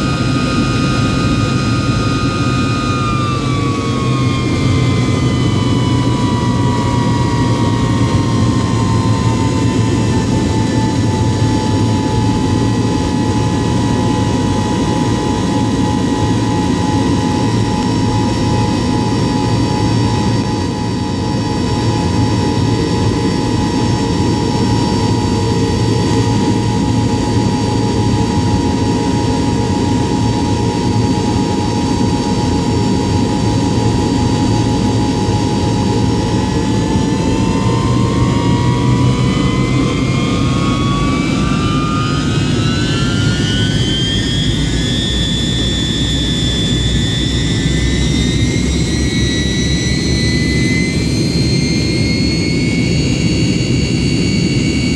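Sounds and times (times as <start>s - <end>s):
jet engines whining: 0.0s - 54.9s.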